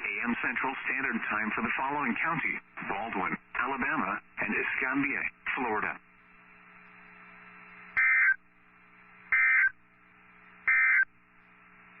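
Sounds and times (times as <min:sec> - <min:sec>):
faint radio hiss: 0:00.0 - 0:12.0
steady hum: 0:00.0 - 0:12.0.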